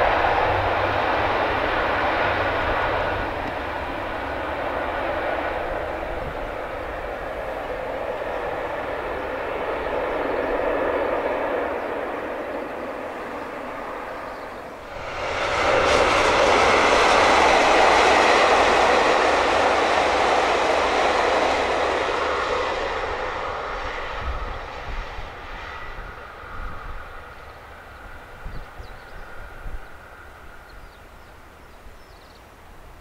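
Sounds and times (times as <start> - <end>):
diesel train passing: 0.0 - 33.0.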